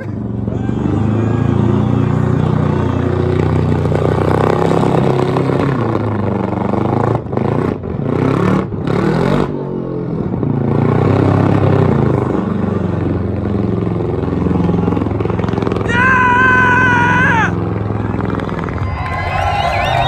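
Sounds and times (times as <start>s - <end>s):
engine at high revs: 0.0s - 20.0s.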